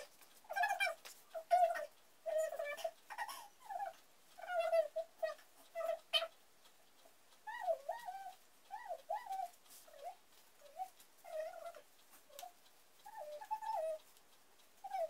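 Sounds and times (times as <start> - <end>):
animal high-pitched calls: 0.0 - 6.4, 7.4 - 14.1.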